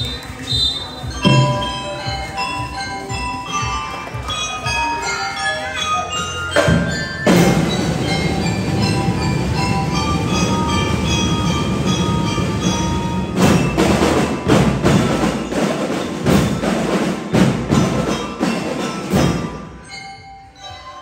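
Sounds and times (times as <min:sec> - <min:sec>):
drums playing: 0:01.0 - 0:05.1, 0:06.5 - 0:19.7
bell lyre melody: 0:01.0 - 0:21.0.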